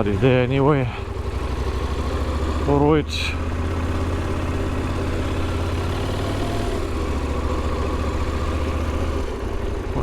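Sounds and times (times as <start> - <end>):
motorcycle engine running at low revs: 0.0 - 10.0.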